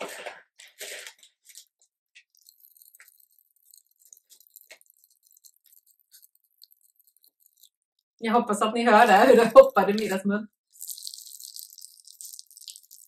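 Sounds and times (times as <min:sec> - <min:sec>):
popping candy crackling: 0:00.6 - 0:08.0, 0:08.9 - 0:13.0.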